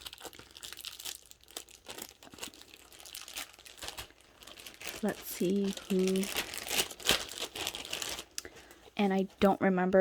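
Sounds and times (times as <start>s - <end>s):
packaging crinkling: 0.0s - 8.9s.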